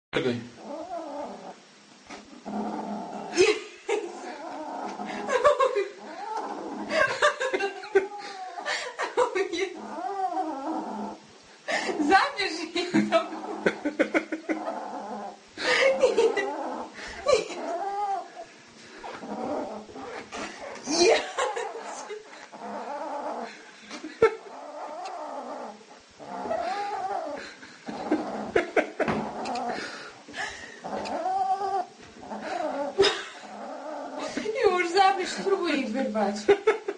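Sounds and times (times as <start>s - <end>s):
kitten growling: 0.6s - 35.4s.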